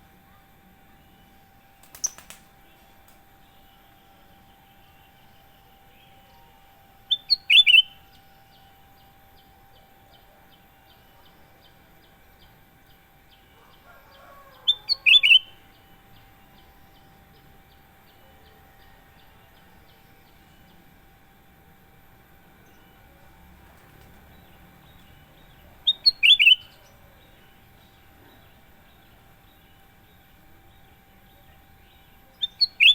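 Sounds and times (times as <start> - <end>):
faint steady hum: 0.0 - 32.9
bird chirping calls: 1.0 - 20.9, 22.6 - 32.9.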